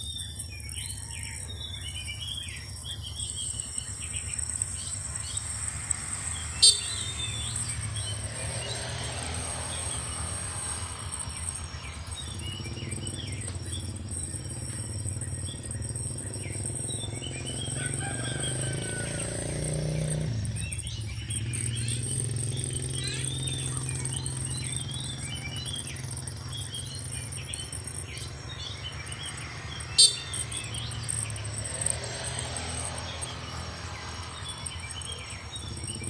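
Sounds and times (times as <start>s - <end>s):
bird chirps: 0.0s - 36.0s
insects trilling: 0.0s - 36.0s.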